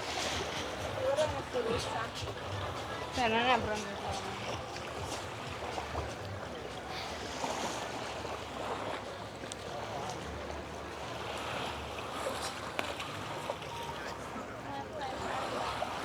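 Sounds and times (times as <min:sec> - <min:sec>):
small waves washing on shore: 0:00.0 - 0:16.0.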